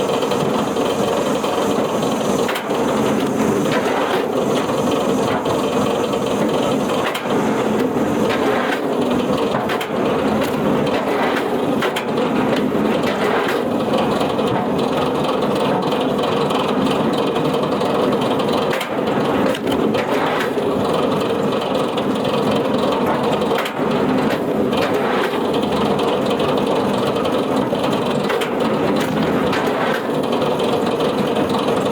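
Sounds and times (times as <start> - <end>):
wood-processing machinery running: 0.0 - 31.9.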